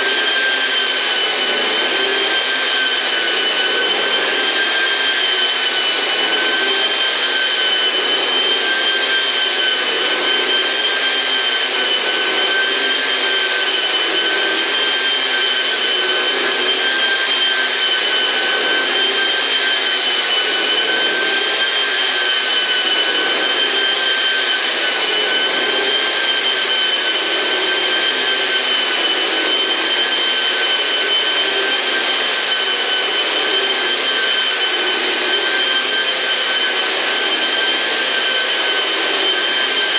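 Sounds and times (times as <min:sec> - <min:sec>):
floor polisher motor whine: 0:00.0 - 0:39.9.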